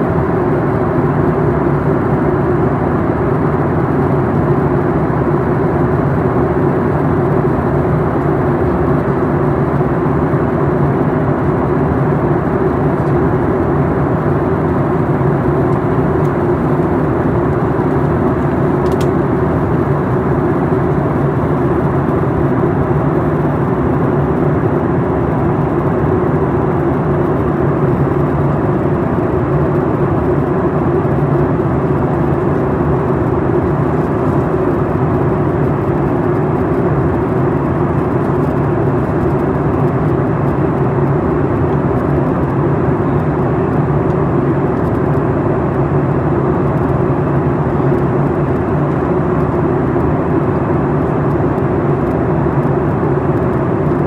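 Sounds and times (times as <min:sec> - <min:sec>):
jet engines droning: 0:00.0 - 0:54.0.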